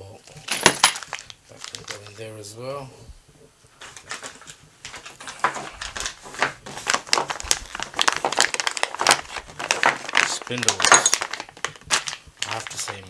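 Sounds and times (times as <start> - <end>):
plastic packaging crinkling: 0.2 - 2.5, 3.7 - 13.0.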